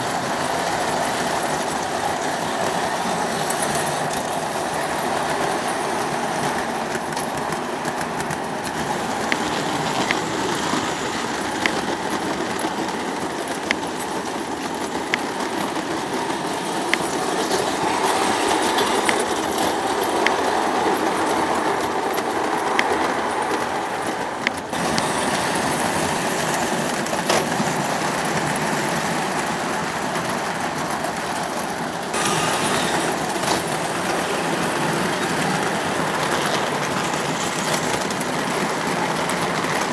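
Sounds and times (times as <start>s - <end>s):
model train wheels rumbling: 0.0s - 39.9s
sharp rail clicks: 0.0s - 39.9s.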